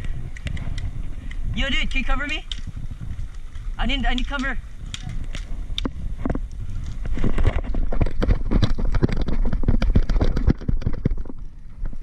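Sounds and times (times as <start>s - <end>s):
running footsteps on dusty ground: 0.0s - 12.0s
wind buffeting microphone: 0.0s - 12.0s.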